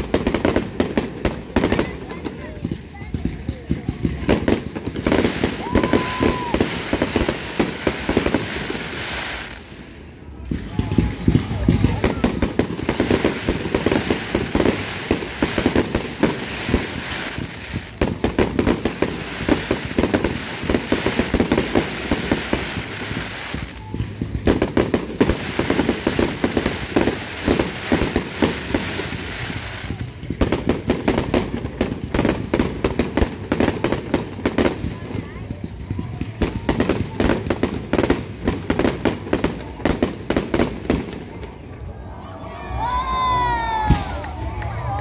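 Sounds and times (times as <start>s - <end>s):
fireworks bursting and crackling: 0.0s - 42.2s, 43.1s - 45.0s.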